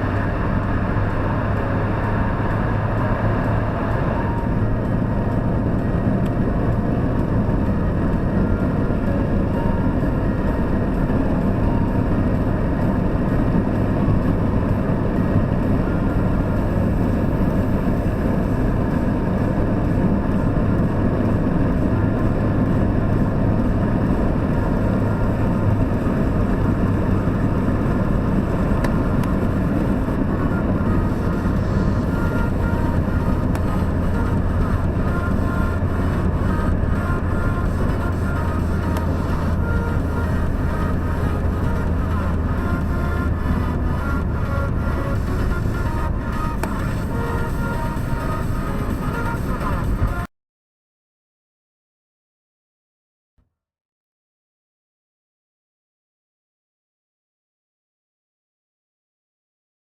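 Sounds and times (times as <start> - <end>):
diesel engine running steadily: 0.0 - 50.3.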